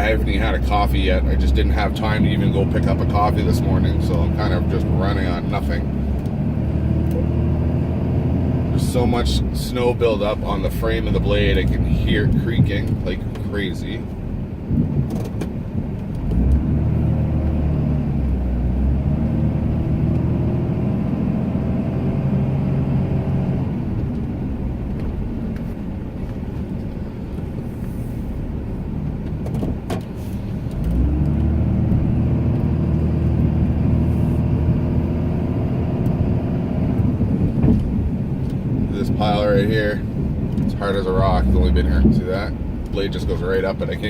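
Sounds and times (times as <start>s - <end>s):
pickup engine revving under load: 0.0s - 44.0s.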